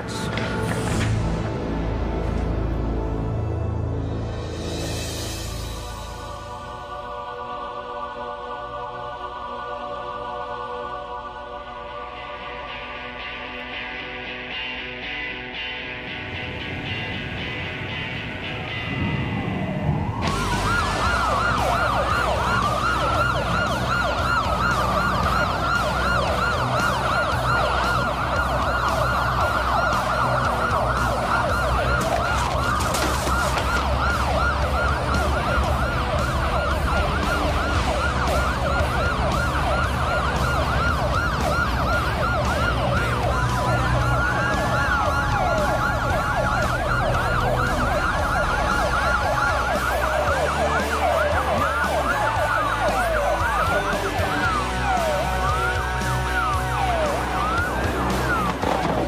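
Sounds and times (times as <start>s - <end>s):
police sirens wailing: 0.0s - 3.3s, 5.0s - 59.0s
low steady drone: 0.0s - 51.6s.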